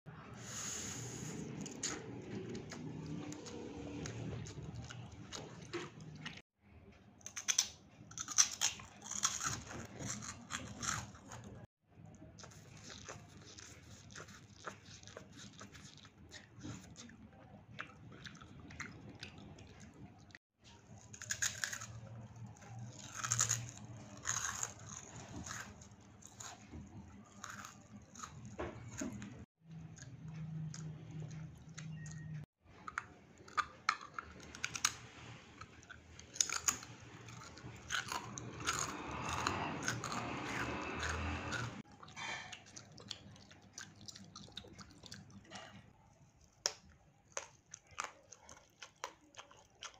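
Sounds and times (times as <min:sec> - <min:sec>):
wet chewing: 0:01.4 - 0:06.4, 0:07.2 - 0:49.9.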